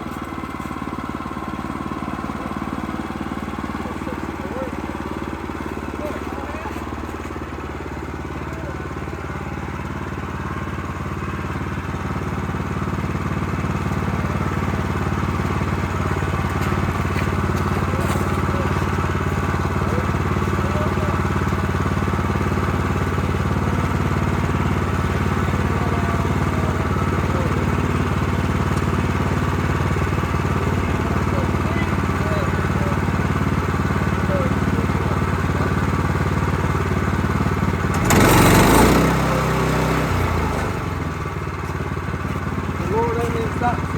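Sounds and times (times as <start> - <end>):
sawmill engine running: 0.0 - 43.9.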